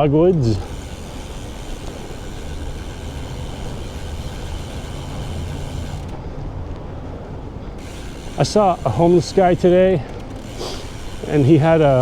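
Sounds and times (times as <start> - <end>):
low motor vehicle hum: 0.0 - 12.0
traffic noise: 0.0 - 12.0.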